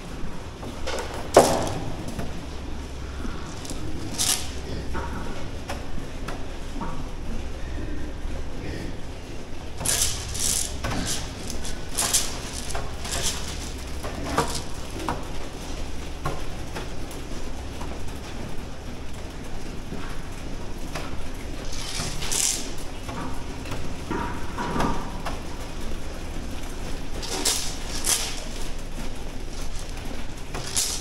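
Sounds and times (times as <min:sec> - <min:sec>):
rustling and clatter: 0:00.0 - 0:07.0, 0:08.7 - 0:18.6, 0:19.2 - 0:31.0
steady low hum: 0:00.0 - 0:31.0.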